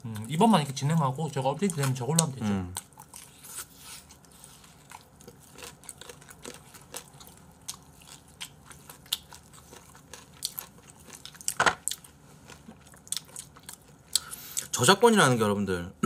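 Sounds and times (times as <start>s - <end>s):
chewing fried chicken: 0.0s - 15.1s.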